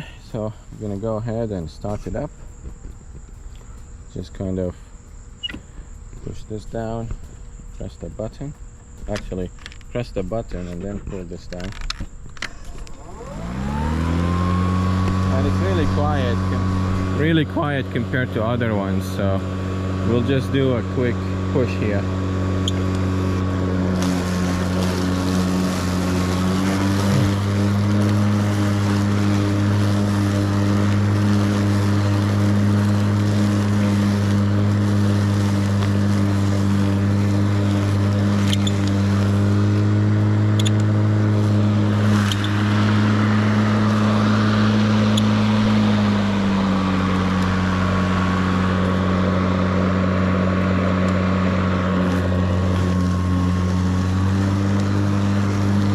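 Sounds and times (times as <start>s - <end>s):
electric lawn mower cutting grass: 0.8s - 55.9s.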